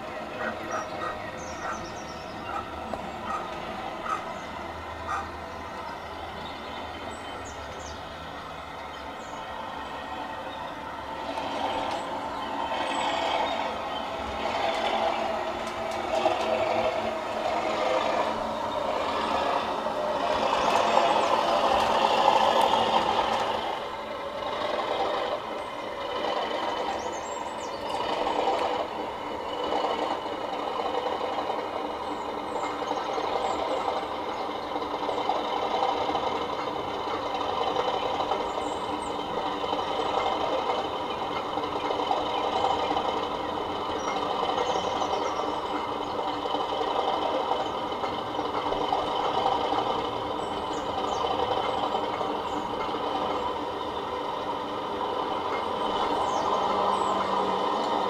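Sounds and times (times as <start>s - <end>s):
diesel engine through small speaker: 0.0s - 58.0s.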